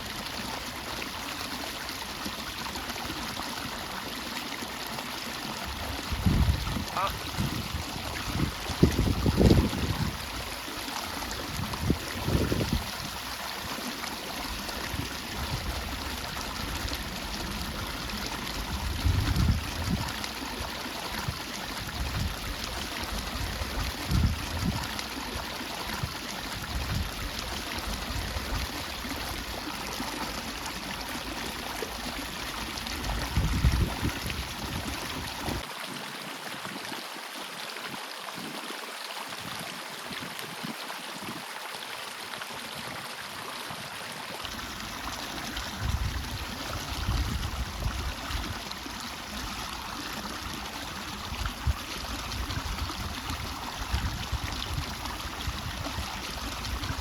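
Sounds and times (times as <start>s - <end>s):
water rushing into a pond: 0.0s - 57.0s.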